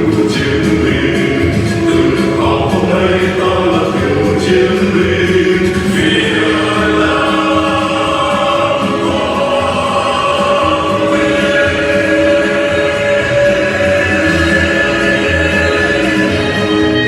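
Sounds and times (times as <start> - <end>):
choir singing a march: 0.0 - 17.0.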